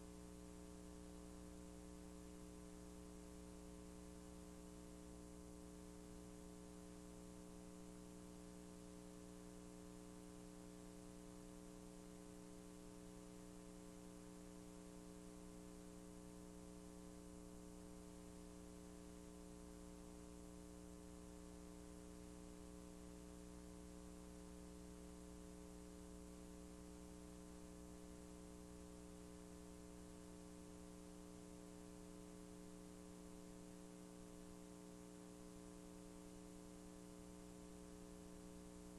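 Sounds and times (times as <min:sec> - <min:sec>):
faint electrical hum with hiss: 0:00.0 - 0:38.9.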